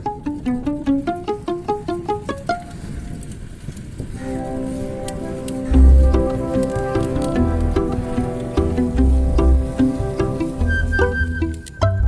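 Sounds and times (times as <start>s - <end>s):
plucked string music: 0.0s - 3.0s, 4.2s - 12.0s.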